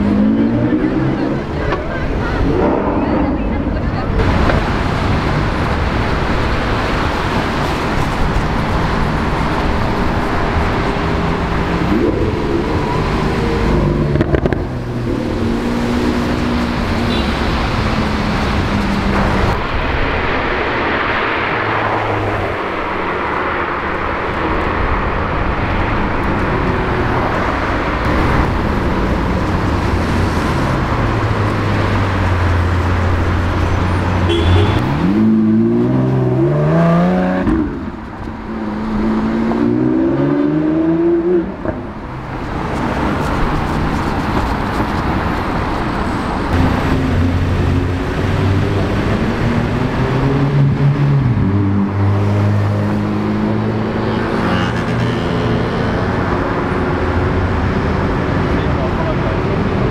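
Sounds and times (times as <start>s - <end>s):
car engines accelerating: 0.0s - 59.9s
street traffic: 0.0s - 59.9s.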